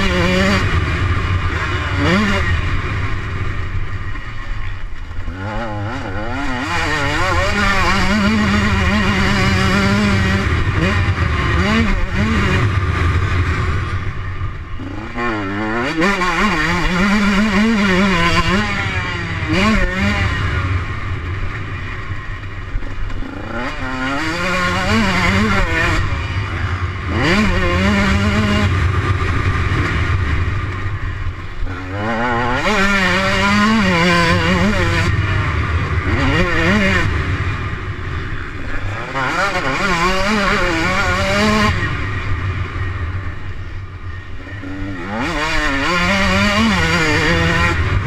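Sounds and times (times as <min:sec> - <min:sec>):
motorbike engine revving: 0:00.0 - 0:48.0.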